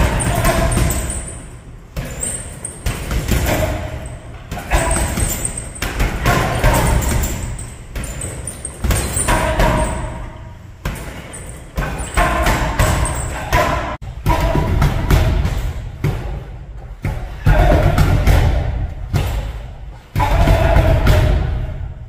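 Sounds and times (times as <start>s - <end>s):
punches thudding into punching bag: 2.0s - 21.8s.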